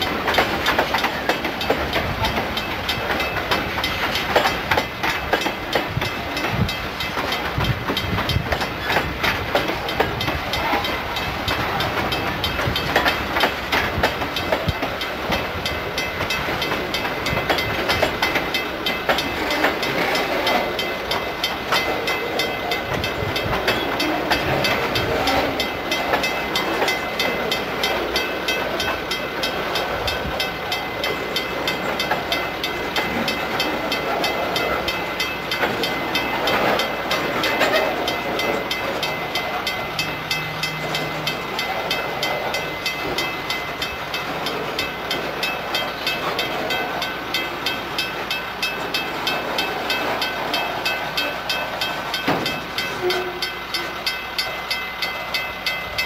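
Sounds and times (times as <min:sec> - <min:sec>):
freight train rumbling past: 0:00.0 - 0:56.0
wheels clacking over rail joints: 0:00.0 - 0:56.0.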